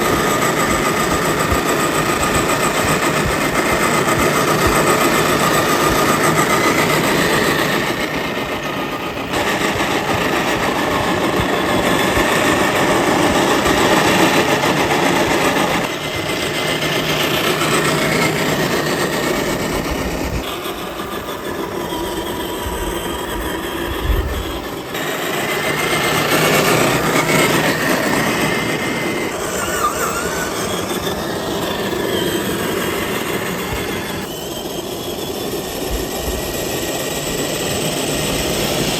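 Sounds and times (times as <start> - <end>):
electric motor and gearbox whining: 0.0 - 38.9.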